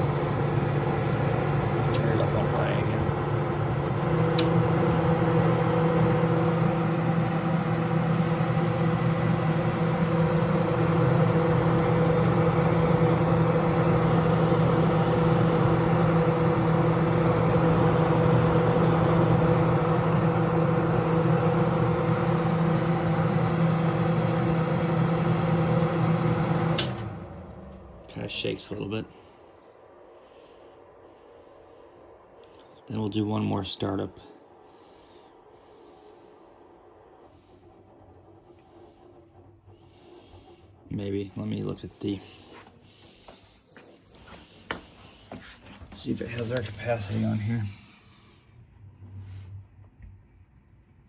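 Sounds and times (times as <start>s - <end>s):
dehumidifier fan rushing: 0.0s - 51.0s.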